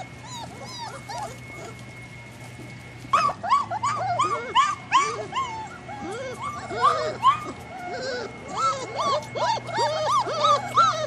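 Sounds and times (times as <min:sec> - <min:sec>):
puppies whining and yelping: 0:00.0 - 0:11.0.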